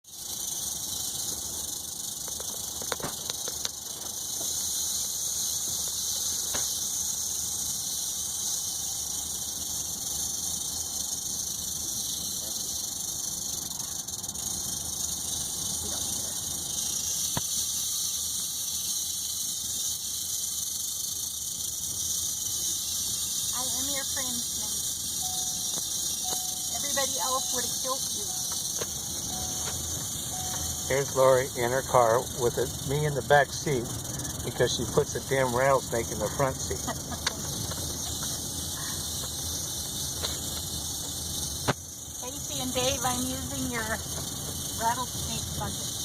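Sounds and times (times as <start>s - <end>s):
rattlesnake rattling: 0.0s - 46.0s.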